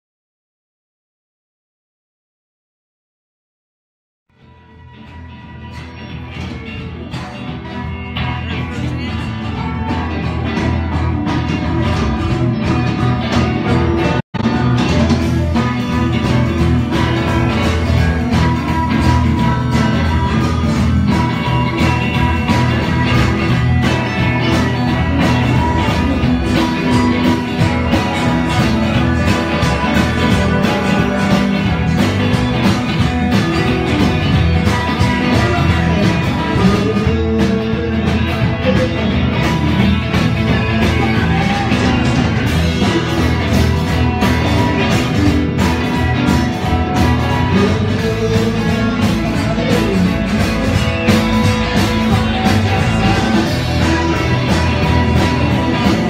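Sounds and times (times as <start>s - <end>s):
electric guitar: 4.4s - 56.0s
strummed acoustic guitar: 4.8s - 56.0s
drum kit beat: 5.0s - 56.0s.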